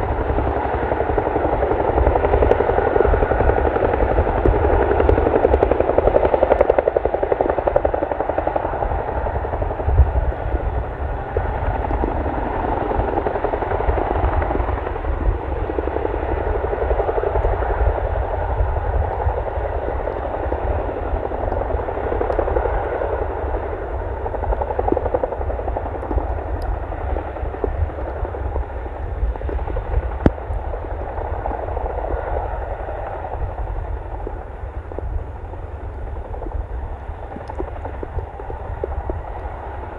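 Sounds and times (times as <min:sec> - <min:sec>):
helicopter rotors beating: 0:00.0 - 0:39.9.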